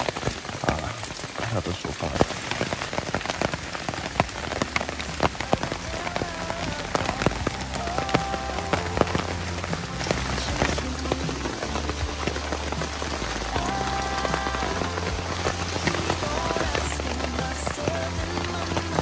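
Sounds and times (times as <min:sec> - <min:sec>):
heavy raindrops ticking: 0:00.0 - 0:19.0
steady rain falling: 0:00.0 - 0:19.0.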